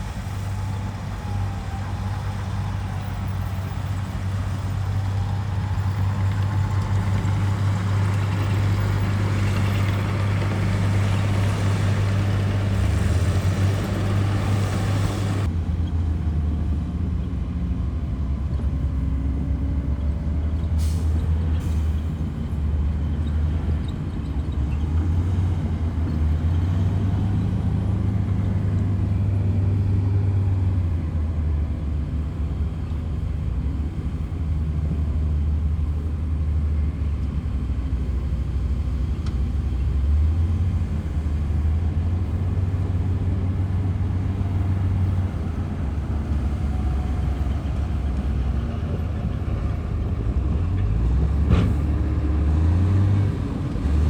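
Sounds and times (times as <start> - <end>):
heavy diesel machinery engine drone: 0.0 - 54.0.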